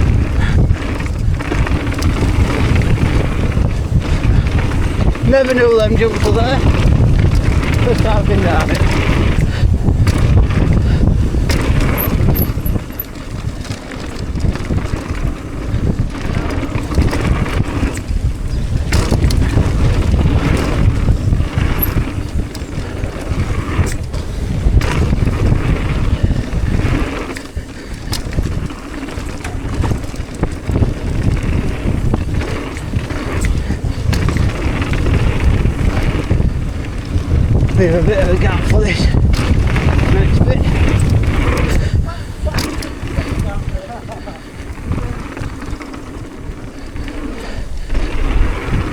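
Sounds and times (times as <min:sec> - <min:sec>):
bike knocks and rattles: 0:00.0 - 0:48.9
wind buffeting microphone: 0:00.0 - 0:48.9.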